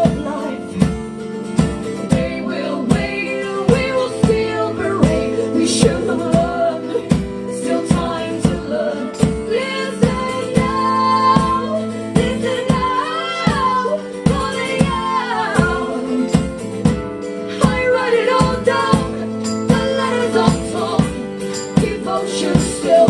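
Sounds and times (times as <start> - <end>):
strummed acoustic guitar: 0.0 - 23.0
steady drum beat: 0.1 - 23.0
women singing long notes: 2.1 - 16.6, 17.5 - 23.0.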